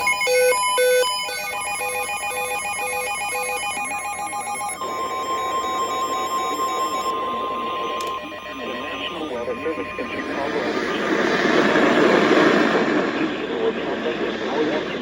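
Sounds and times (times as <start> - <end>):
steady alert tone: 0.0 - 12.2
electronic beeping tones: 0.0 - 12.8.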